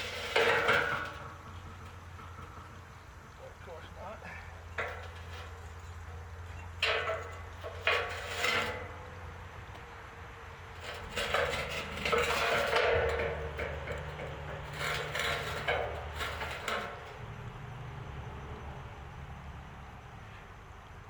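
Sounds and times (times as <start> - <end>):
metal clanking and scraping: 0.0 - 17.9.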